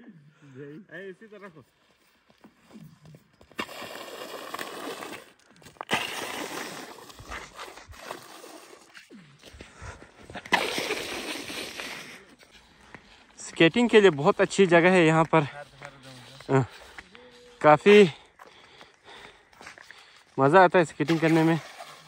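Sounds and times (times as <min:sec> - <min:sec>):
footsteps crunching on snowy ice: 0:01.2 - 0:22.0.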